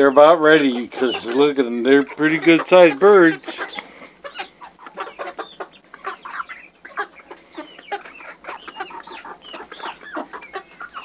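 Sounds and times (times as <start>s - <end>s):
chicks clucking and calling: 0.0s - 11.0s.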